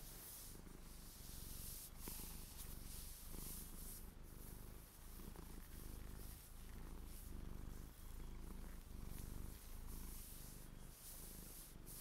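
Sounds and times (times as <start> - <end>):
hands rubbing knit socks: 0.0 - 12.0.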